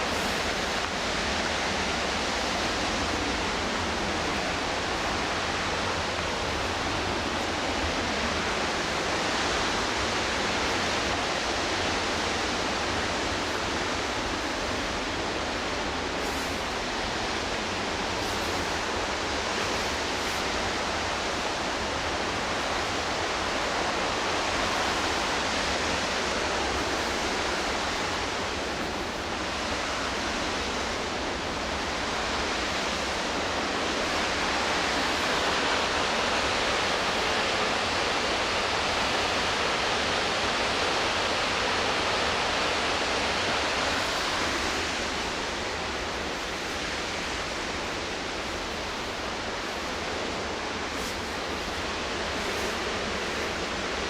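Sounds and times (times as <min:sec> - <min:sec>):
river whitewater roaring: 0:00.0 - 0:54.0.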